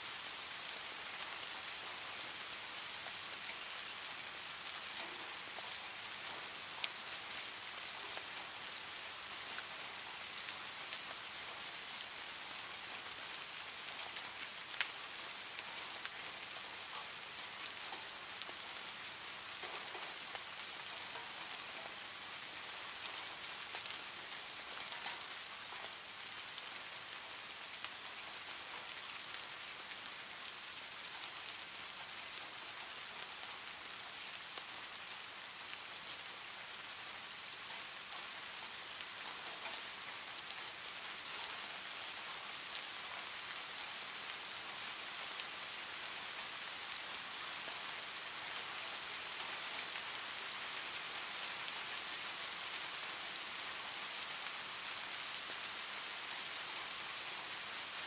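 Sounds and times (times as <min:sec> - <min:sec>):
steady rain hiss: 0:00.0 - 0:58.0
faint raindrop ticks: 0:00.2 - 0:58.0.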